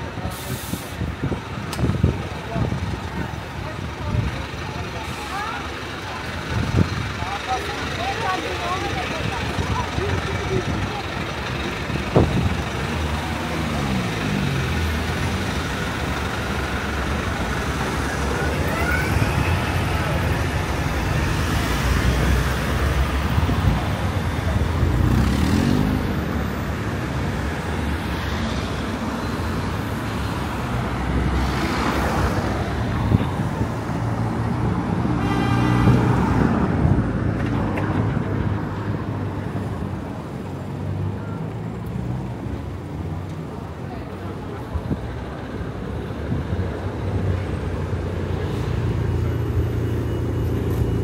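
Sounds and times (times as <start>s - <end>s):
traffic rumble: 0.0s - 51.0s
vehicles passing close: 0.0s - 51.0s.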